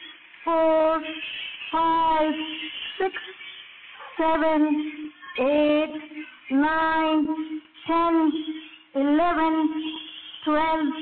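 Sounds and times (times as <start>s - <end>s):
high singing voice: 0.0s - 11.0s.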